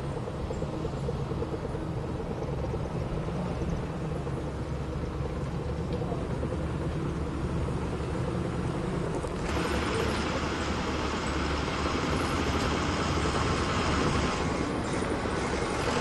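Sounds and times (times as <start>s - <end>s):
bulldozer diesel engine drone: 0.0s - 16.0s.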